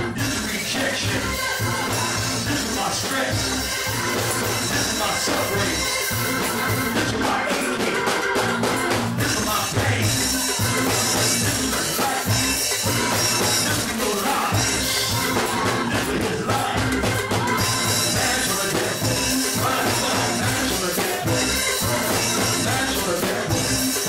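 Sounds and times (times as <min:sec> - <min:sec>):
drum kit: 0:00.0 - 0:24.0
gospel band music: 0:00.0 - 0:24.0
repeating bass line: 0:00.0 - 0:24.0.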